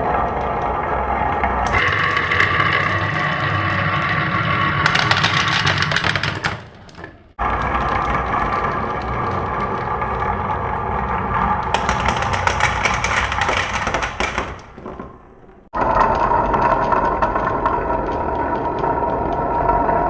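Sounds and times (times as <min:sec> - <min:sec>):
marbles rolling through wooden run: 0:00.0 - 0:20.0.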